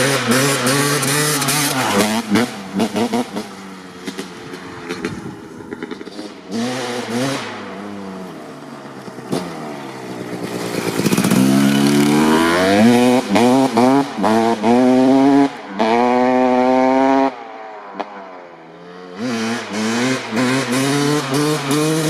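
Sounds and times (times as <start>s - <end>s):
dirt bike engine revving: 0.0s - 18.1s, 18.7s - 22.0s.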